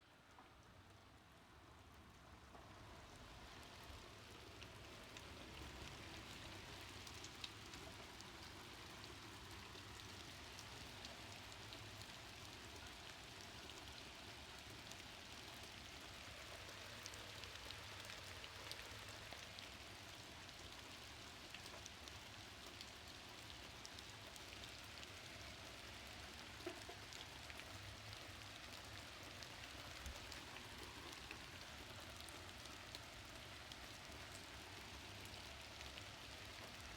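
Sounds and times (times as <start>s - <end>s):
faint steady rain: 0.0s - 36.9s.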